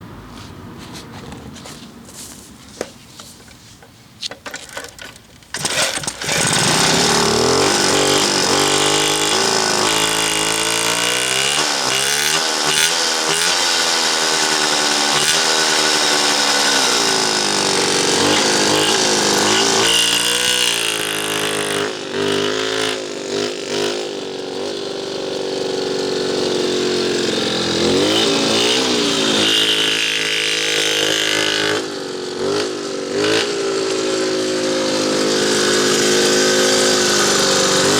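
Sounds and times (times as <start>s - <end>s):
moped engine revving: 0.0s - 37.9s.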